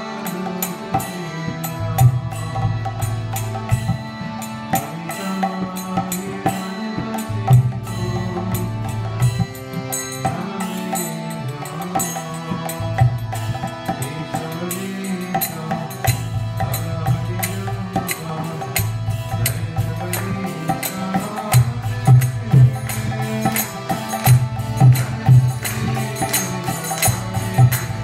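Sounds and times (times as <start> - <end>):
harmonium playing chords: 0.0 - 28.0
percussion strikes: 0.0 - 28.0.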